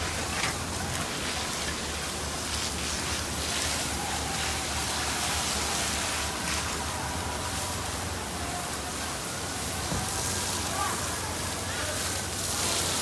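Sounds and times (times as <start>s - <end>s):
fire hose spraying water: 0.0s - 13.0s.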